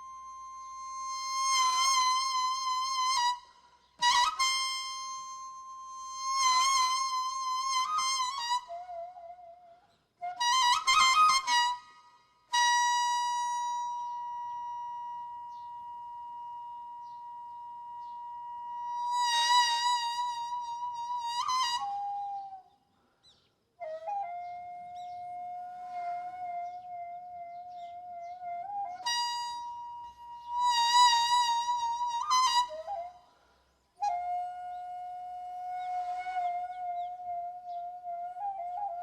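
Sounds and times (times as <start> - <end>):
solo wind instrument melody: 0.0 - 22.8, 23.8 - 39.0.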